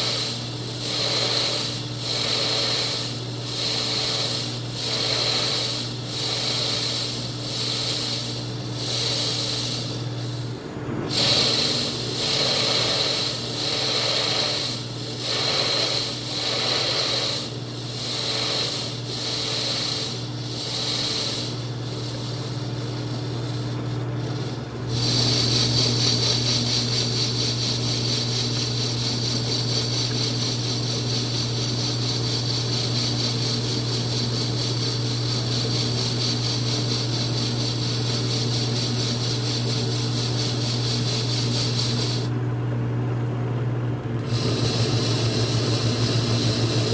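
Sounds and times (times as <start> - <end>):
metal lathe hum and whine: 0.0 - 46.9.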